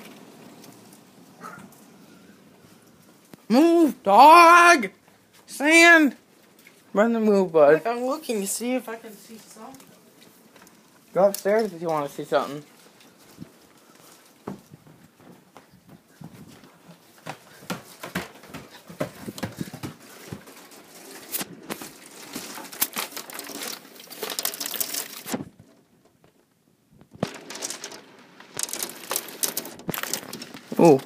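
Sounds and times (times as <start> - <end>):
hailstones pelting house: 0.0 - 15.5, 16.1 - 31.0.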